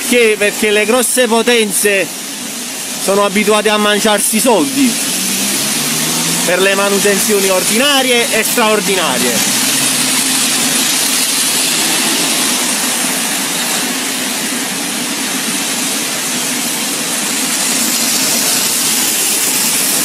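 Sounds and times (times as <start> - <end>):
rainwater pouring and splashing: 0.0 - 20.0.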